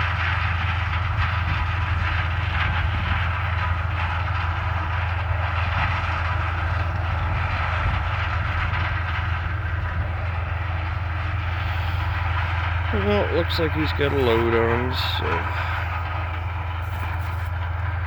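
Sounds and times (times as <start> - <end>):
harvester engines humming: 0.0 - 18.0.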